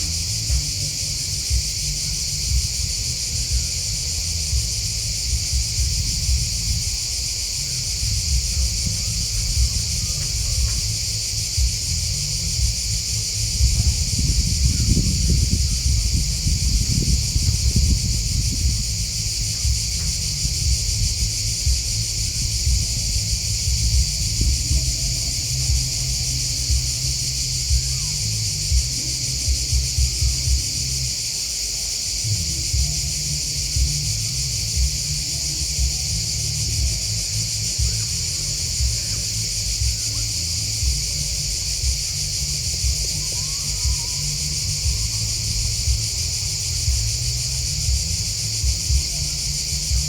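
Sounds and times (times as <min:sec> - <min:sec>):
irregular low rumble: 0:00.0 - 0:31.3, 0:32.1 - 0:50.0
insects chirping: 0:00.0 - 0:50.0.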